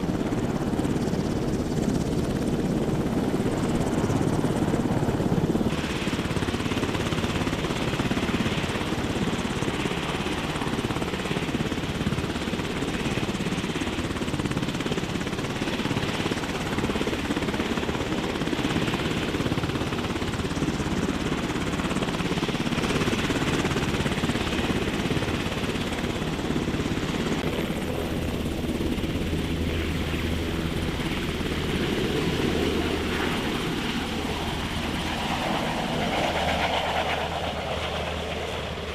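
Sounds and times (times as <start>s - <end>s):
helicopter rotor and turbine rumble: 0.0s - 38.9s.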